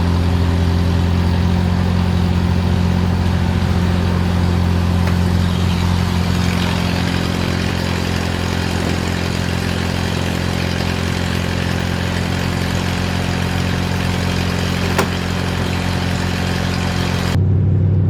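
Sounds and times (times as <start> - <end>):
engine idling: 0.0 - 17.4.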